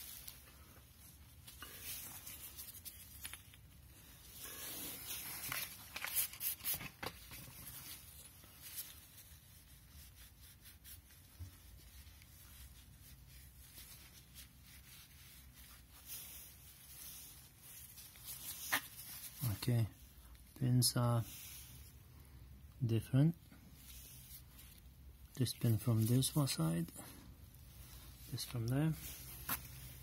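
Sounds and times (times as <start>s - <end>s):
cloth rag rubbing: 0.0s - 22.0s, 23.5s - 30.0s.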